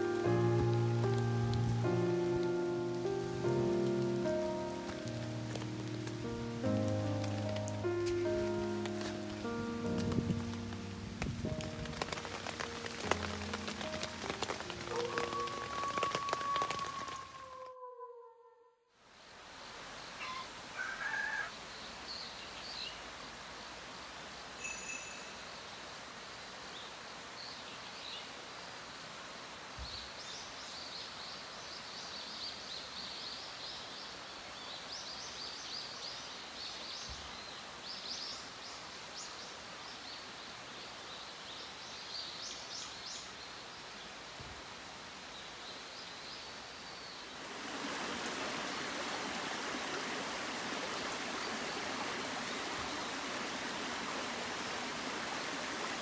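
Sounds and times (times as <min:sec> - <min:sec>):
stream running over rocks: 0:00.0 - 0:17.4, 0:19.0 - 0:56.0.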